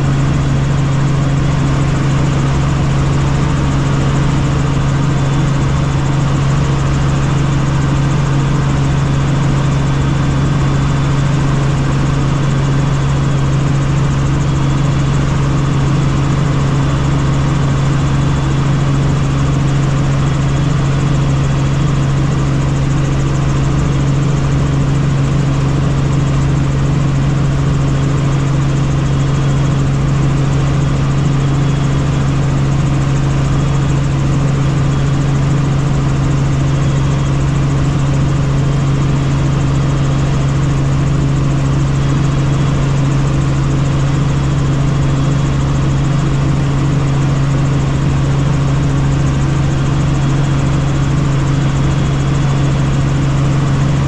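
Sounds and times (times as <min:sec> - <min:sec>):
helicopter rotor drone: 0:00.0 - 0:54.0.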